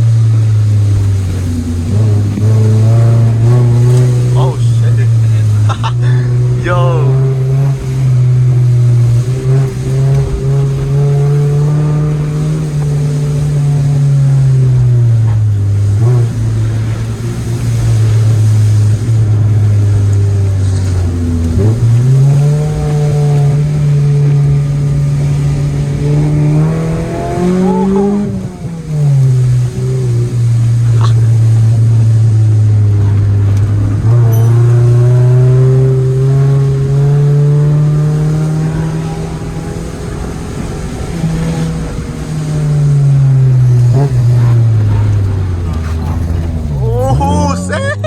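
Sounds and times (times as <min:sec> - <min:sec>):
car engine under hard driving: 0:00.0 - 0:48.0.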